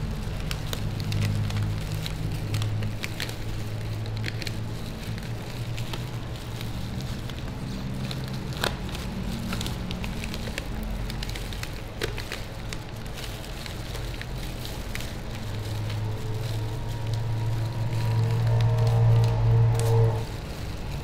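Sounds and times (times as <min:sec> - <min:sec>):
foil wrapper crinkling: 0:00.0 - 0:21.0.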